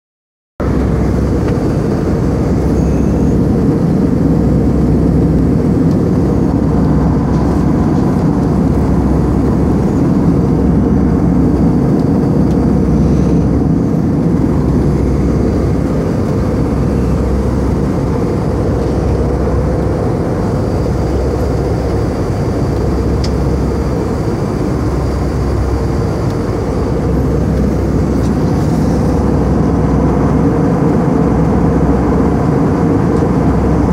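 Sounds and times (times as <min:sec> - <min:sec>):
jet airliner cabin rumble: 0:00.6 - 0:33.9.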